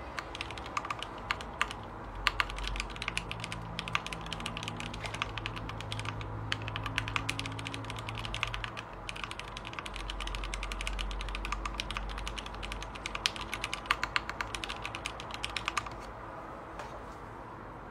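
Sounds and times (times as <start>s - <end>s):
rapid irregular clicking: 0.0s - 16.1s.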